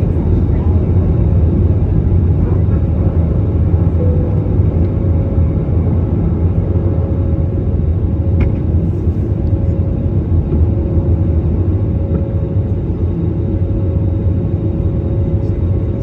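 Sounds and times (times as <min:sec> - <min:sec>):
jet engines rumbling in cabin: 0:00.0 - 0:16.0
steady hum: 0:00.0 - 0:16.0.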